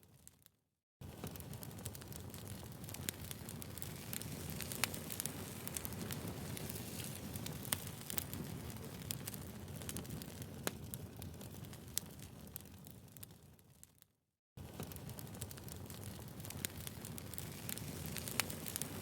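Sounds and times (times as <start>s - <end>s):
firewood crackling and popping: 0.2s - 14.0s, 14.6s - 19.0s
fire rumbling: 1.0s - 13.7s, 14.6s - 19.0s.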